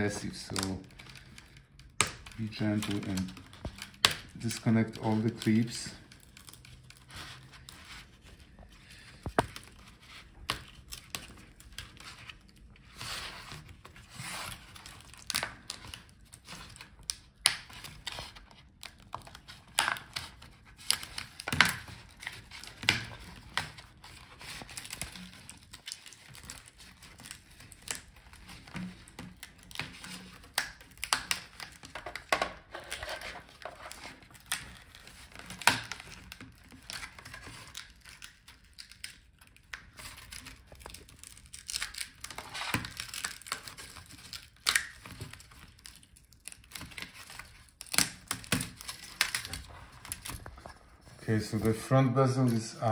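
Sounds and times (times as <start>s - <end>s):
adhesive crackling and tearing: 0.0s - 51.7s.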